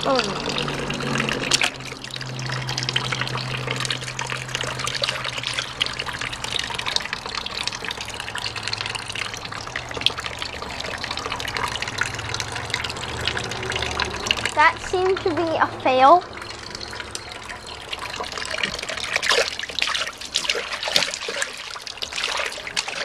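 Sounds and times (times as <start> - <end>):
water trickling into toilet bowl: 0.0 - 23.0.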